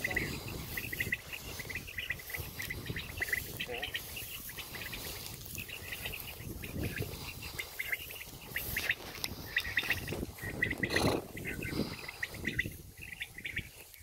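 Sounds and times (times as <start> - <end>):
rustle: 0.0 - 14.0
small birds chirping: 0.0 - 14.0.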